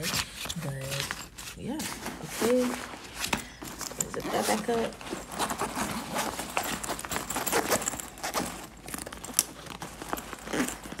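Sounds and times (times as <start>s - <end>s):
bag rustling and knocks: 0.0s - 11.0s.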